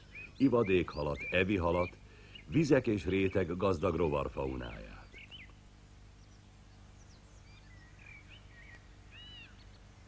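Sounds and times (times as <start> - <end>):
bird chirps and calls: 0.0 - 10.0
steady low hum: 0.0 - 10.0.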